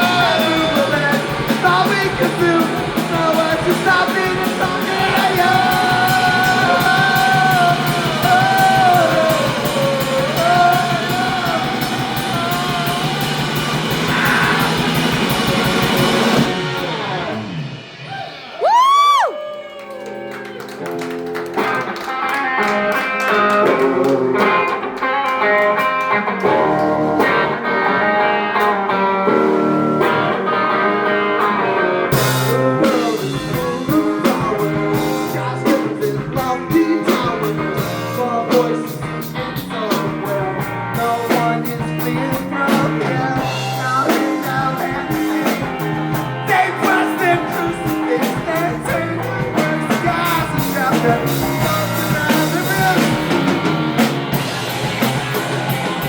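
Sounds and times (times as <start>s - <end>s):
surf rock band playing: 0.0s - 56.0s.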